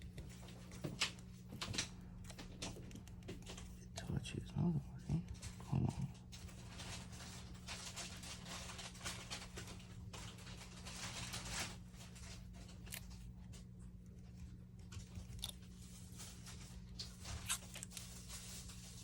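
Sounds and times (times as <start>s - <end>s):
low electrical hum: 0.0s - 19.0s
rustling handling noise: 0.0s - 19.0s.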